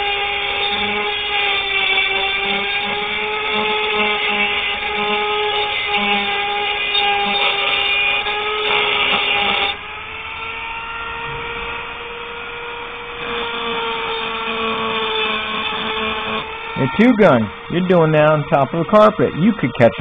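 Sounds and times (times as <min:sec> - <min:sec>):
rotary tool grinding metal: 0:00.0 - 0:20.0.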